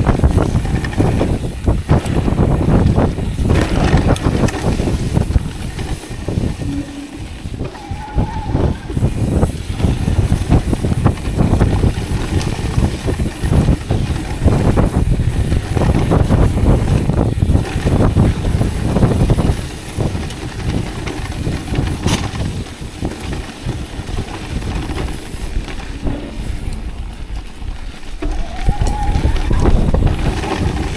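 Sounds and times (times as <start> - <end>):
bike rattling over ground: 0.0 - 30.9
wind rushing over microphone: 0.0 - 30.9.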